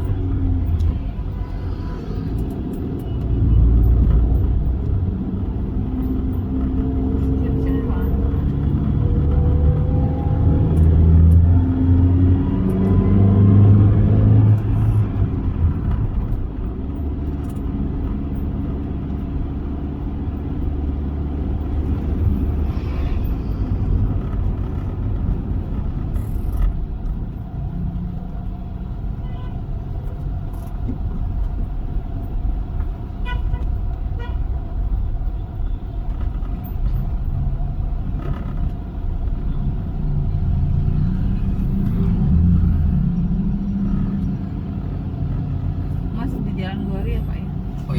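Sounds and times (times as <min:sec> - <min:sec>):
car engine accelerating: 0:00.0 - 0:29.0, 0:34.8 - 0:47.9
road noise: 0:00.0 - 0:47.9.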